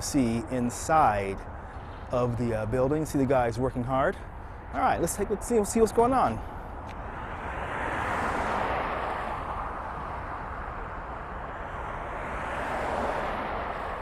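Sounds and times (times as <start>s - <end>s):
rushing vehicle noise: 0.0s - 14.0s.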